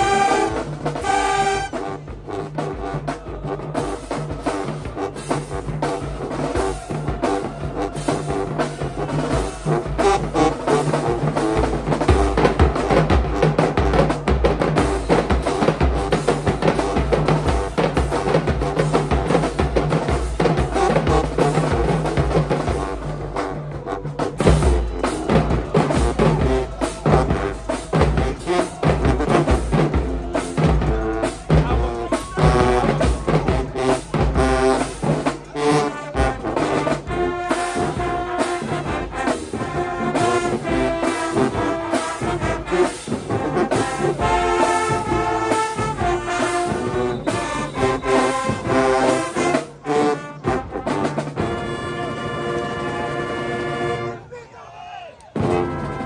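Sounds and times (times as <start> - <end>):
brass horns playing: 0.0 - 54.5, 55.3 - 56.0.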